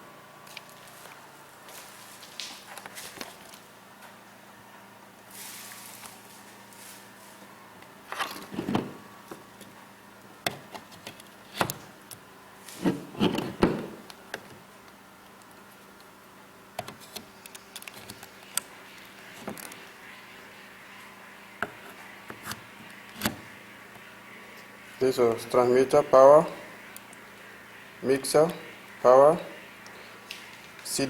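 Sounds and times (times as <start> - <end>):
faint electrical hum: 0.0 - 31.0.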